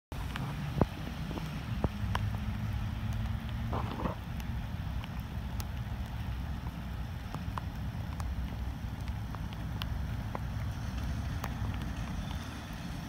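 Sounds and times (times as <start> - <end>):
rain falling: 0.1 - 13.0
steady low rumble: 0.1 - 13.0.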